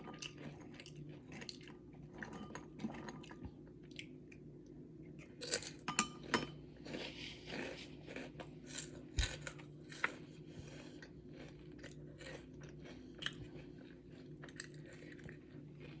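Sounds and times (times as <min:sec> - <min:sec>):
person chewing food: 0:00.0 - 0:04.5, 0:05.2 - 0:16.0.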